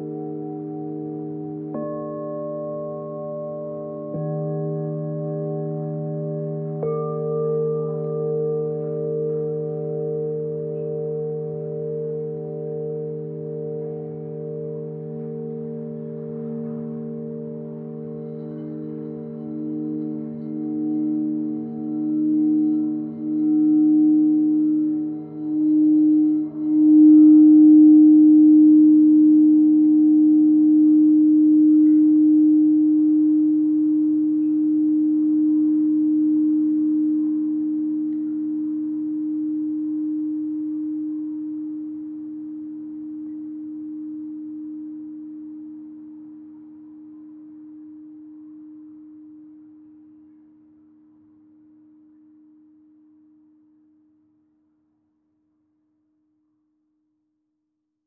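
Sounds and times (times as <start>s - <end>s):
crystal singing bowls ringing: 0.0s - 53.7s.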